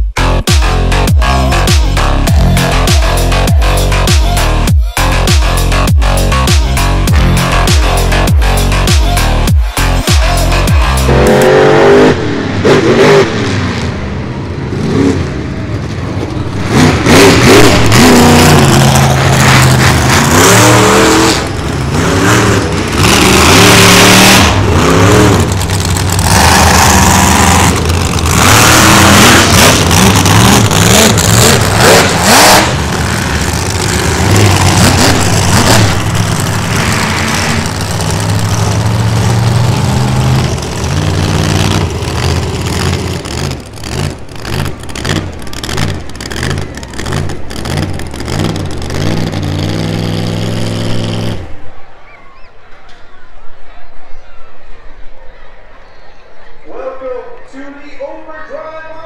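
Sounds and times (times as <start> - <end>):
monster truck engine revving: 0.0 - 52.1.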